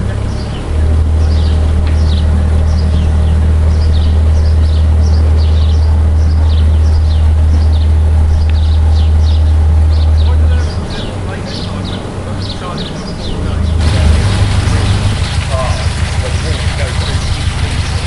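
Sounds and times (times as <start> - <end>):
loud low hum: 0.0 - 18.0
small birds chirping: 0.0 - 18.0.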